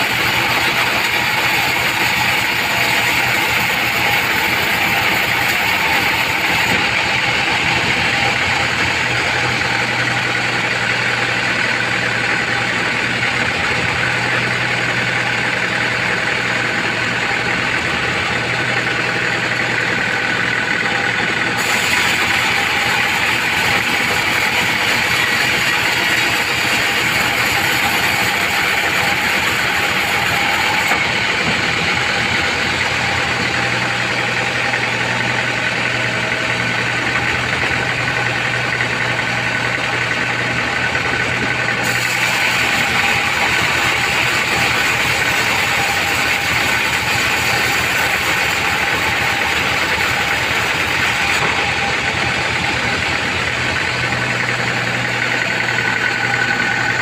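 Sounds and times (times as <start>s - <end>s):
band saw whining: 0.0s - 57.0s.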